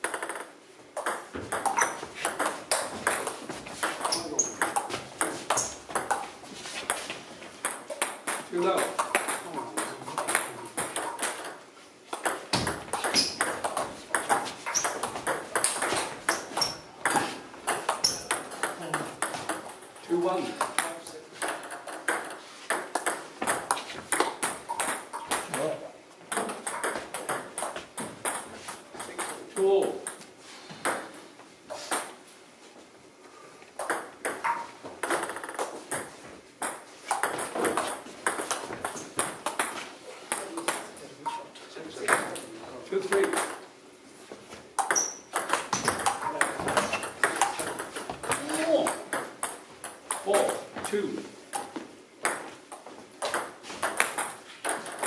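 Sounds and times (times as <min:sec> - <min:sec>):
table tennis ball bouncing: 0:00.0 - 0:31.2, 0:33.8 - 0:41.4, 0:42.0 - 0:42.4, 0:43.1 - 0:43.6, 0:44.8 - 0:55.0.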